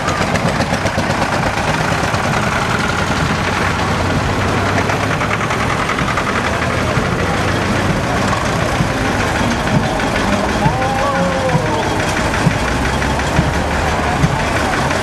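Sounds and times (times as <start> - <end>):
diesel tractor engines running: 0.0 - 15.0.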